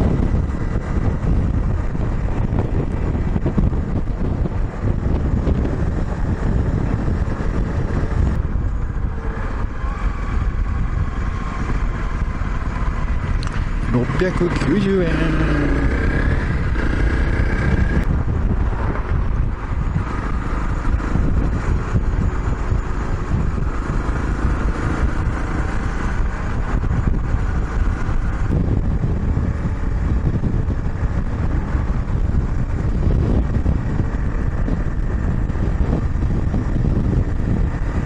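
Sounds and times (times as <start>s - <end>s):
motorcycle engine running: 0.0s - 38.0s
road noise: 0.0s - 38.0s
wind noise on microphone: 0.0s - 38.0s.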